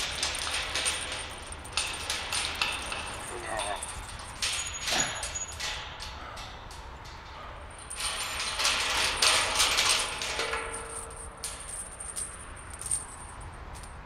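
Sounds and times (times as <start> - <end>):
chain and padlock rattling: 0.0 - 14.0.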